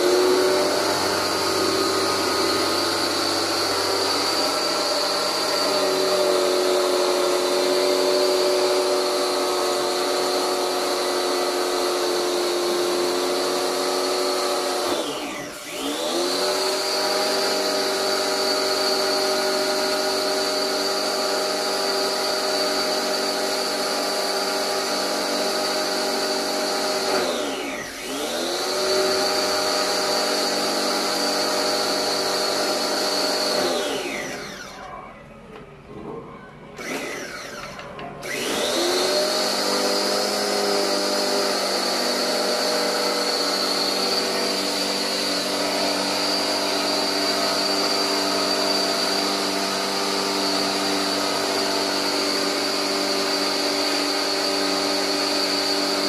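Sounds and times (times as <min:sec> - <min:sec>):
pressure washer motor running: 0:00.0 - 0:34.8, 0:36.8 - 0:56.0.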